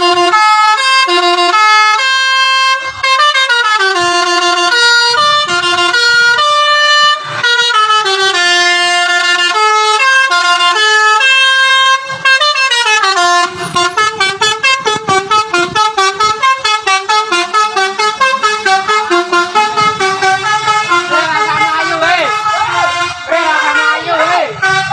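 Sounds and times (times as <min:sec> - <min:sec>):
musical air horn playing a tune: 0:00.0 - 0:24.9.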